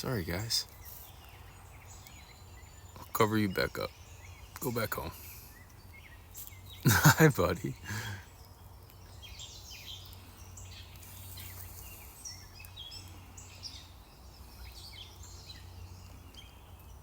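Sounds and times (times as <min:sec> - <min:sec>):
birds chirping: 0:00.0 - 0:17.0
low steady background hum: 0:00.0 - 0:17.0.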